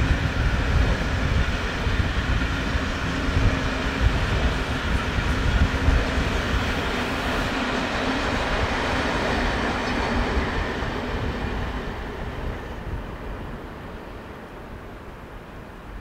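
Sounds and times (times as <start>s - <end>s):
train rolling past on rails: 0.0s - 16.0s
wind buffeting microphone: 0.0s - 16.0s.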